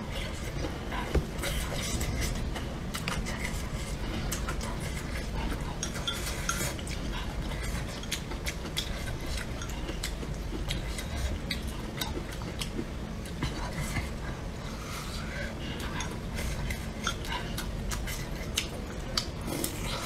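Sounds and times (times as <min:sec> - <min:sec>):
steady low hum: 0:00.0 - 0:20.0
small clicks of eating: 0:00.2 - 0:14.4, 0:15.8 - 0:20.0.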